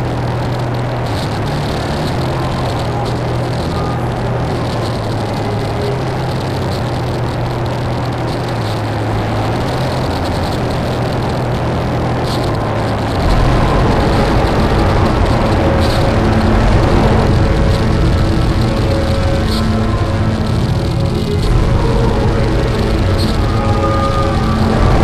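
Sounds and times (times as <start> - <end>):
hiss and distorted noise: 0.0 - 25.0
low drone: 0.0 - 25.0.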